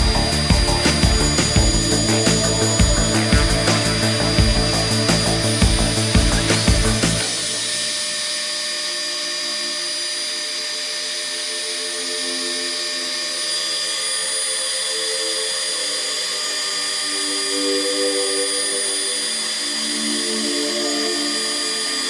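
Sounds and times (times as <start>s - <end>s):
spindle high whine: 0.0s - 22.0s
stepper motor tones: 0.0s - 22.0s.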